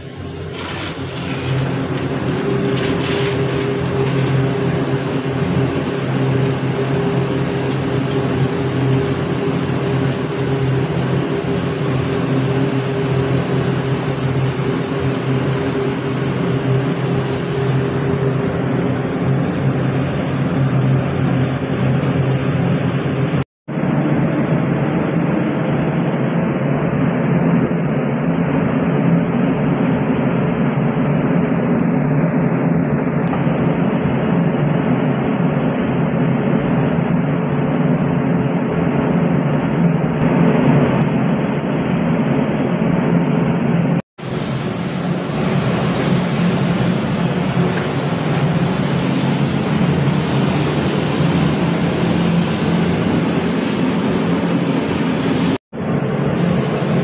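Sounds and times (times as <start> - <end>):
ventilation rushing and humming: 0.0 - 57.0.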